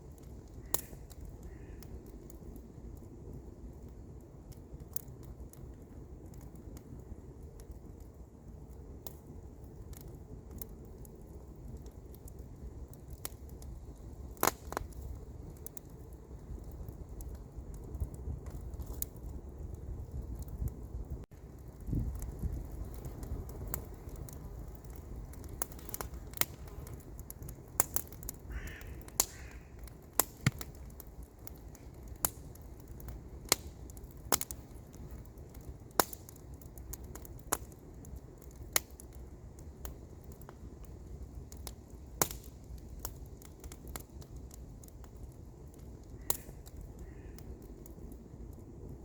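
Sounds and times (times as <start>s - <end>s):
campfire crackling and popping: 0.0s - 49.0s.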